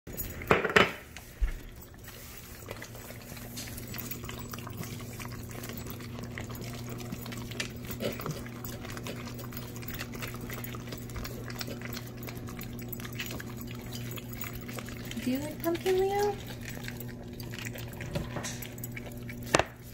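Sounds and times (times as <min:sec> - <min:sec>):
dogs licking a plate: 0:01.1 - 0:19.9.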